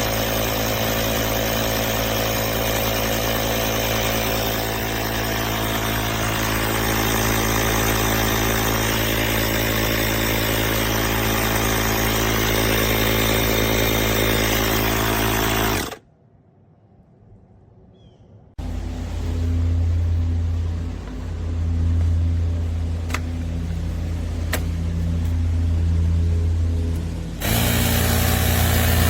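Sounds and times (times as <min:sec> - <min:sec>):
tire inflator compressor humming: 0:00.0 - 0:16.0, 0:18.6 - 0:29.0.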